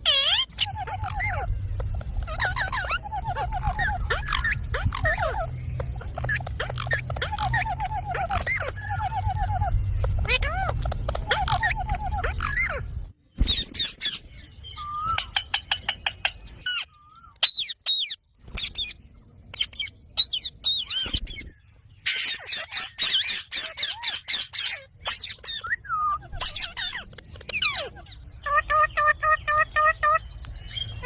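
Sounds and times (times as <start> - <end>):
parrots chirping and squawking: 0.0 - 31.0.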